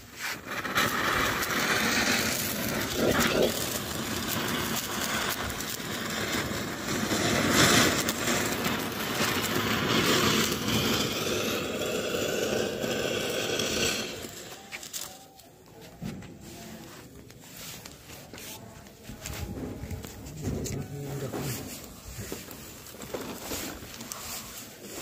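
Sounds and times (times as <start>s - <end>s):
firecracker hissing: 0.0s - 25.0s.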